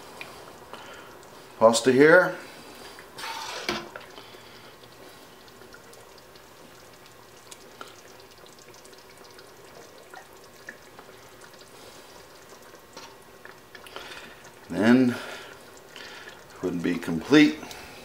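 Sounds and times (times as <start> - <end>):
thick sauce pouring and plopping: 2.5 - 18.0.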